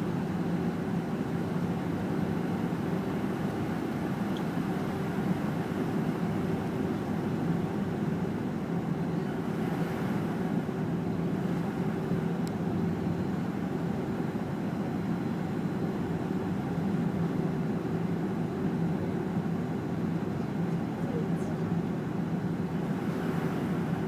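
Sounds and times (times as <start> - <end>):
jet engine hum in cabin: 0.0 - 24.0.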